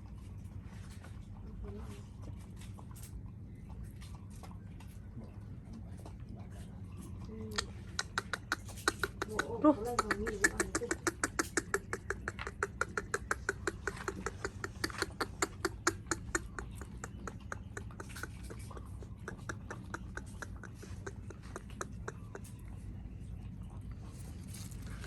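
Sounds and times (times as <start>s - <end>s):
dog eating with smacking clicks: 0.0s - 25.0s.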